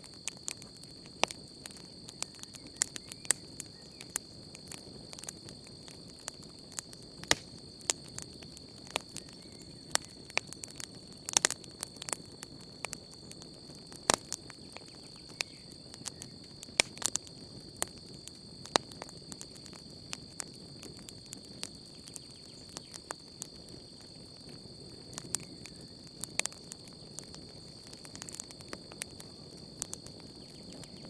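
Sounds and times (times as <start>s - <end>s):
campfire crackling and popping: 0.0s - 31.0s
insect trill: 0.0s - 31.0s.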